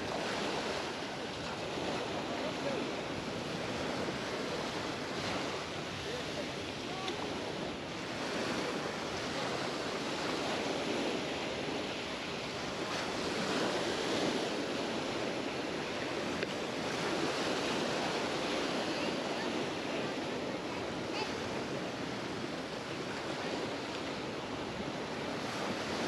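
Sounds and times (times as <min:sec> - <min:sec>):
sea waves breaking on a beach: 0:00.0 - 0:26.0.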